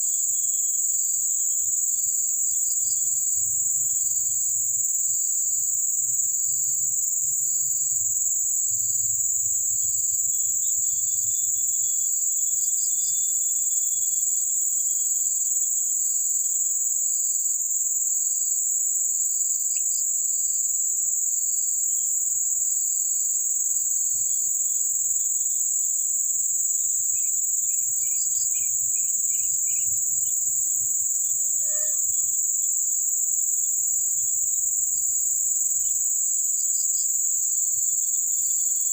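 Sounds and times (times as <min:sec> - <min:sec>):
insect chirping in regular pulse: 0:00.0 - 0:38.9
insect high-pitched drone: 0:00.0 - 0:38.9.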